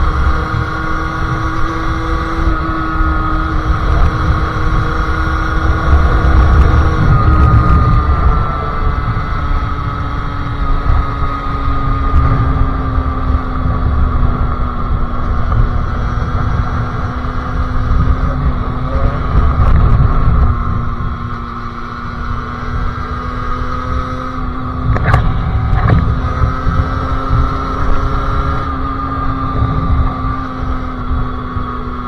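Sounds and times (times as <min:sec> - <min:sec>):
two-stroke motorcycle engine: 0:00.0 - 0:32.0
wind rumble on microphone: 0:00.0 - 0:32.0.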